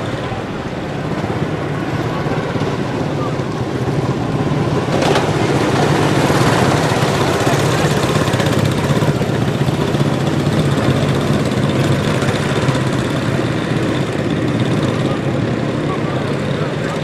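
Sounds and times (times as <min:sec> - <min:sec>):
small race car engines droning: 0:00.0 - 0:17.0.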